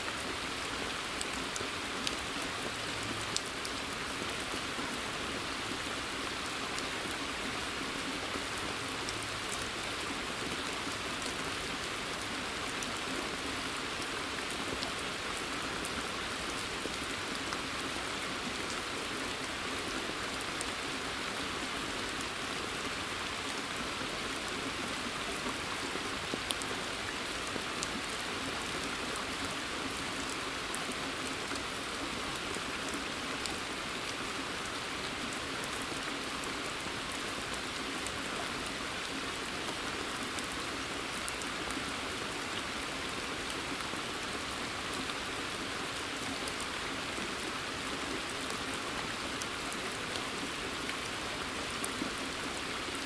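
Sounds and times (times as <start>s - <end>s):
raindrops splashing on water: 0.0s - 53.0s
steady rain hiss: 0.0s - 53.0s.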